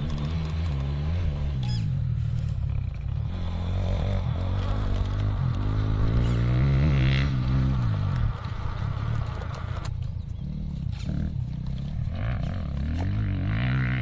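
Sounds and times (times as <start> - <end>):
drivetrain and tyre noise: 0.0 - 14.0.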